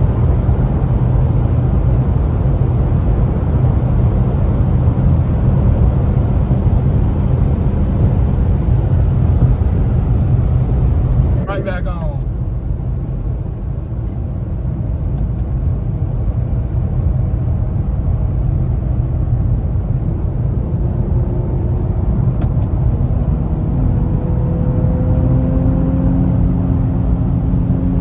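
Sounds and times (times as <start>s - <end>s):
car engine rumble: 0.0s - 28.0s
road noise: 0.0s - 28.0s.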